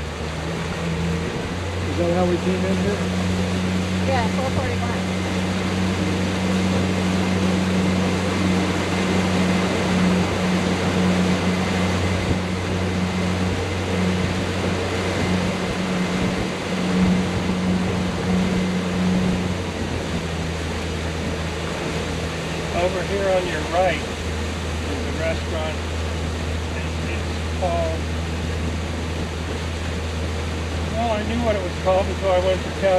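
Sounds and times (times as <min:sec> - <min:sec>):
boat engine humming: 0:00.0 - 0:32.9
wind and water rushing: 0:00.0 - 0:32.9.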